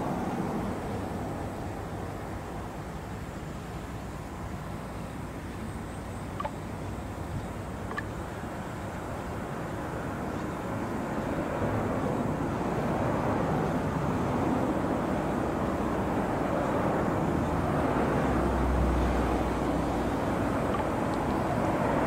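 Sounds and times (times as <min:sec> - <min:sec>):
distant engine drone: 0:00.0 - 0:22.0.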